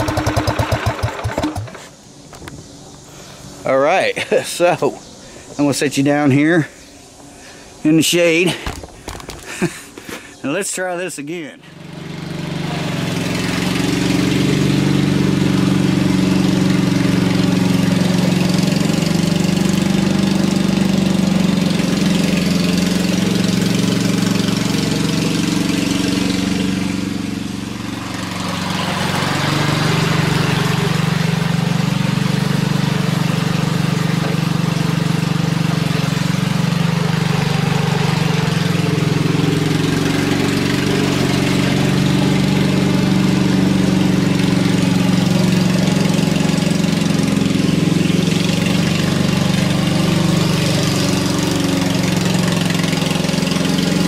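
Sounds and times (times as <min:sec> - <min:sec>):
lawn tractor engine running: 0:00.0 - 0:02.5, 0:08.1 - 0:54.0.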